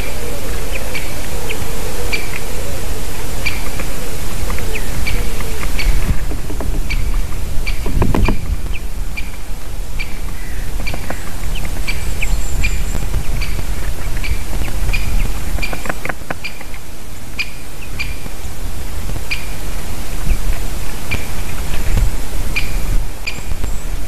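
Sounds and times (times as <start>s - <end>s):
small bird calling: 0.0s - 24.0s
steady low rumble: 0.0s - 24.0s.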